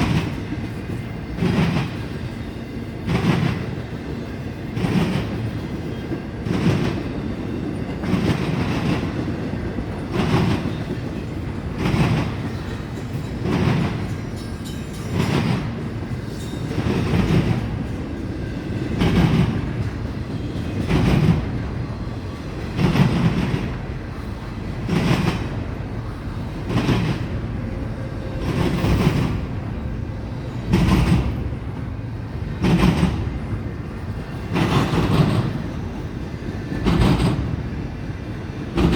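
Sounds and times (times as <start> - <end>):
train rumble: 0.0 - 38.9
train wheels clattering over track: 0.0 - 38.9.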